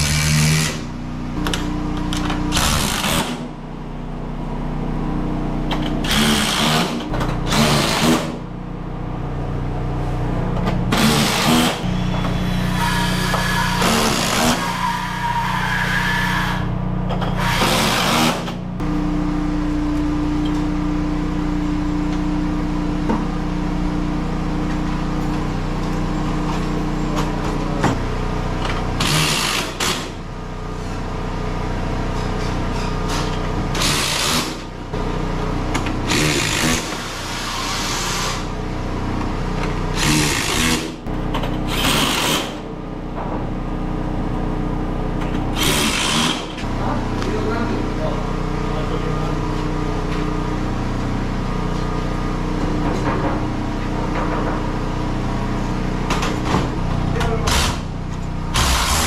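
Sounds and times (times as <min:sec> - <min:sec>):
power tool running: 0:00.0 - 0:03.6, 0:04.9 - 0:08.5, 0:10.5 - 0:22.6, 0:23.2 - 0:42.8, 0:43.8 - 0:59.0
low machine hum: 0:00.0 - 0:59.0.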